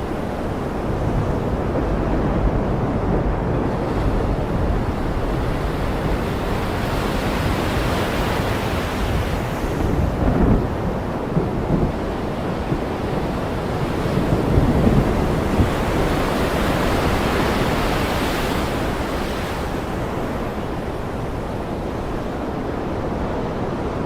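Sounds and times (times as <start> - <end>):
ocean surf washing: 0.0 - 24.0.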